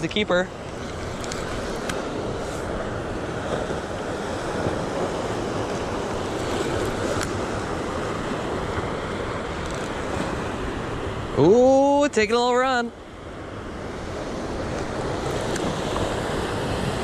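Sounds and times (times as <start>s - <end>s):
surf washing against rocks: 0.0s - 17.0s.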